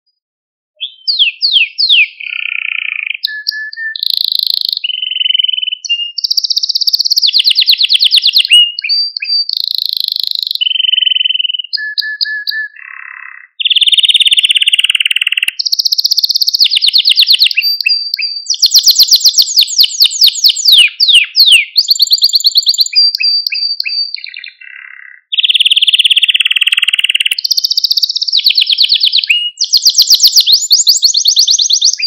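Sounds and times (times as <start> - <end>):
canary singing: 0.8 - 32.0.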